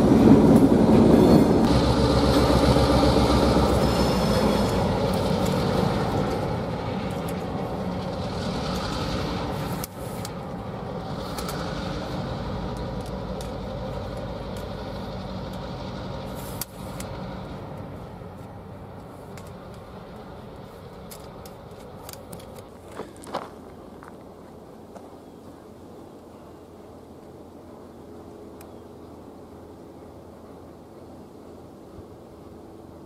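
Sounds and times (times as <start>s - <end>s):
diesel locomotive engine: 0.0s - 33.0s
rail noise: 0.0s - 33.0s.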